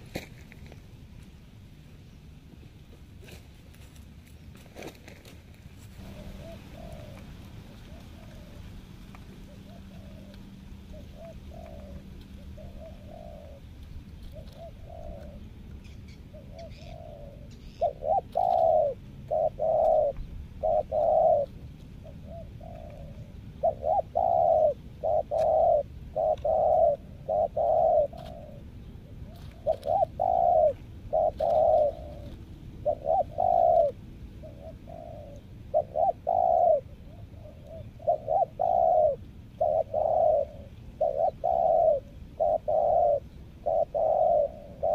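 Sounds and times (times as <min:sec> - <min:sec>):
dove cooing: 0:05.8 - 0:44.9.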